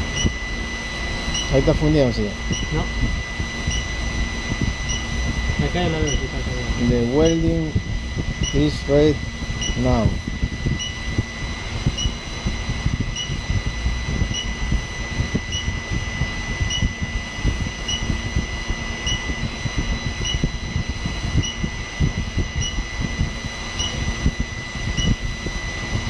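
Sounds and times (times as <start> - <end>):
mechanical whir with high whine: 0.0 - 26.0.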